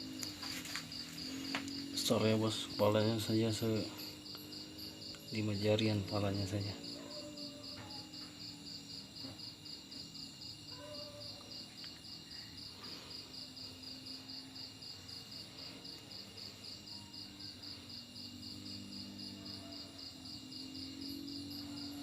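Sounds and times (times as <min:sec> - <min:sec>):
faint low hum: 0:00.0 - 0:22.0
insects chirping: 0:00.0 - 0:22.0.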